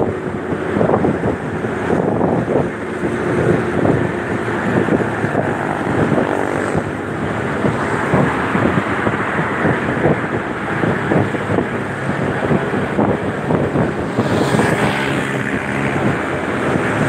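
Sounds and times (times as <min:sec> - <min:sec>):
motorcycle engine: 0:00.0 - 0:17.0
road noise: 0:00.0 - 0:17.0
wind buffeting microphone: 0:00.0 - 0:17.0.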